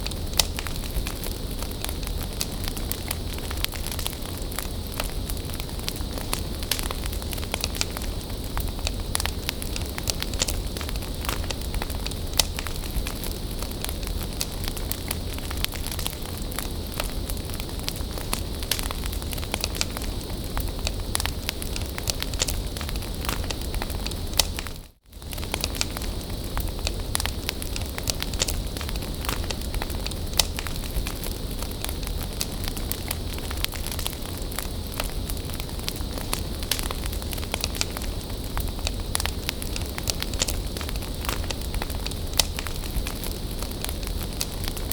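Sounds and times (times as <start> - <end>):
bonfire crackling and popping: 0.0 - 44.9.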